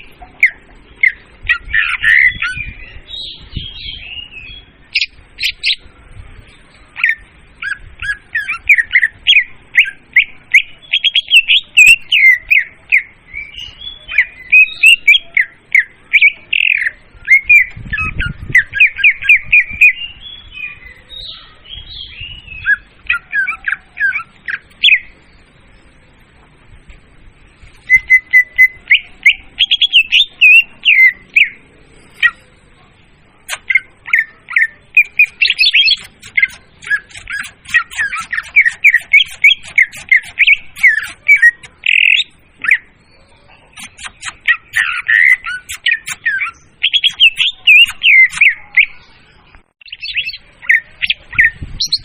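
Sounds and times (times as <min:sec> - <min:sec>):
bird song rapid chirps: 0:00.0 - 0:26.2, 0:27.7 - 0:32.7, 0:33.3 - 0:52.0.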